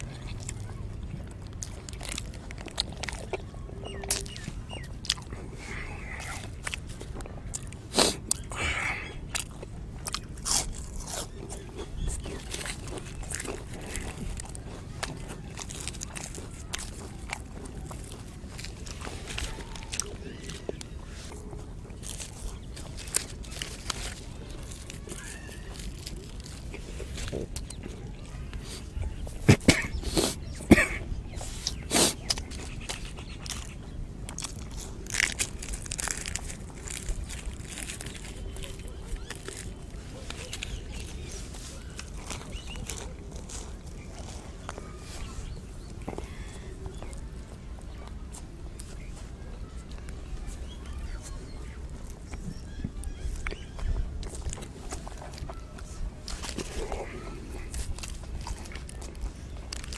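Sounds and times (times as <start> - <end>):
man crunching crisp snacks: 0.0 - 59.9.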